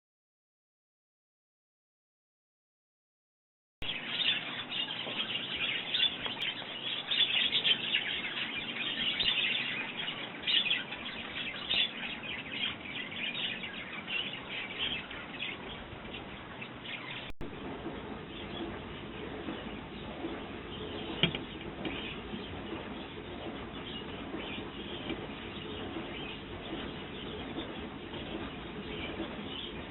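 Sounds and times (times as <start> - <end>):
sparrows chirping: 3.8 - 29.9.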